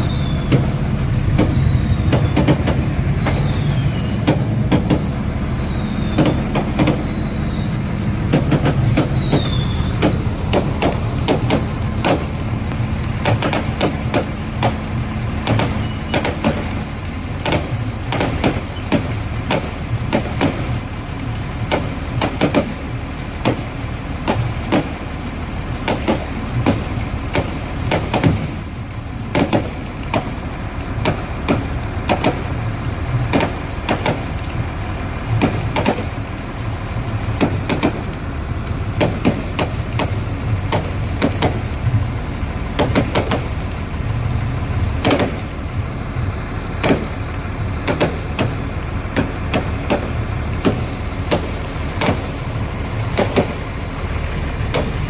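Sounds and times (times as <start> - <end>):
fireworks bangs and crackles: 0.0 - 34.6, 35.3 - 36.3, 37.2 - 41.9, 42.6 - 43.8, 44.9 - 45.6, 46.7 - 53.7
steady low rumble: 0.0 - 55.0.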